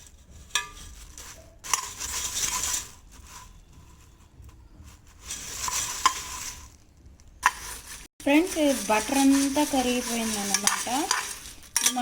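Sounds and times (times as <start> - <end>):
spoon stirring puffed rice in pan: 0.0 - 12.0.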